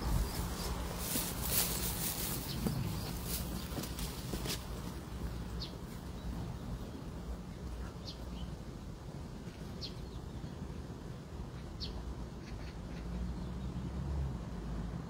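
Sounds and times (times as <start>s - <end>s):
steady low rumble: 0.0s - 12.2s.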